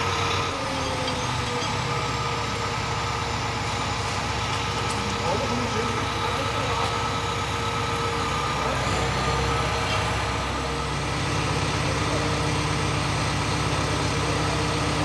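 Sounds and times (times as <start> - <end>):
heavy machine engine idling: 0.0 - 15.0.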